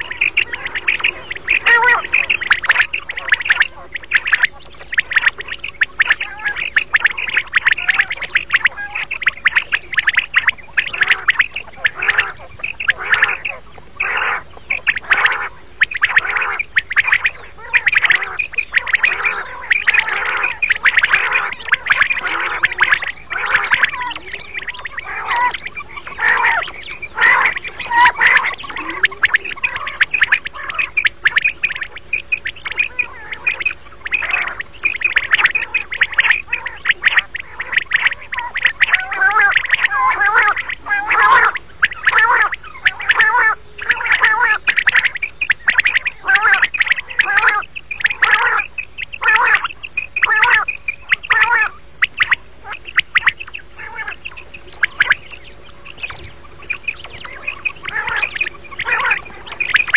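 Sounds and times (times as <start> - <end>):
quail calling: 0.0 - 59.9.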